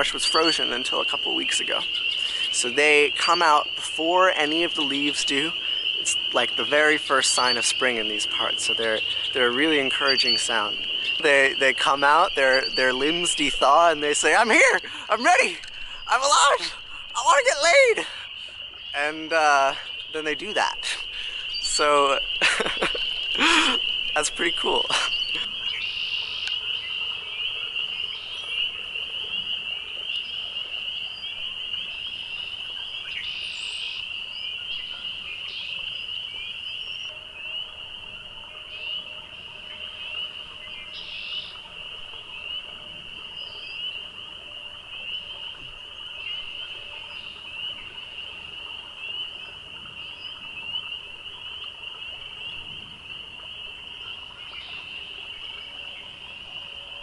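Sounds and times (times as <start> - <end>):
frog chorus peeping: 0.0 - 57.0.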